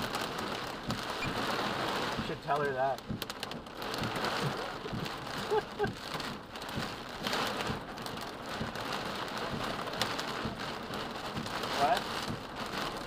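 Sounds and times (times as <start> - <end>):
heavy rain drumming on car roof: 0.0 - 13.0.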